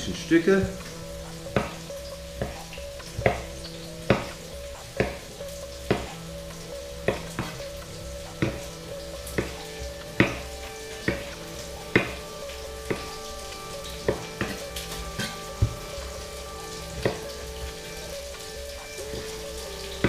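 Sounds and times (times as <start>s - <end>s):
meat sizzling in a pan: 0.0s - 20.0s.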